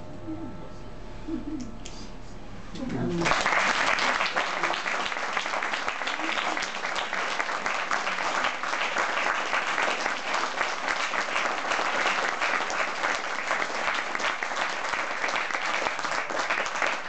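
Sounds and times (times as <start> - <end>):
audience applauding: 3.1 - 17.0.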